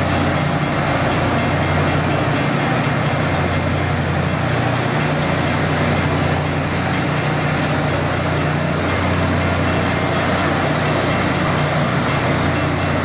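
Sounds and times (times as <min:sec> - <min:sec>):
train engines humming: 0:00.0 - 0:13.0
train rushing noise: 0:00.0 - 0:13.0.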